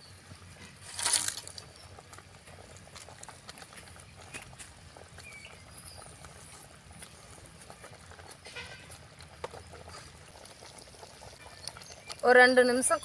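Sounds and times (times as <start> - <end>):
curry simmering: 0.0 - 13.0.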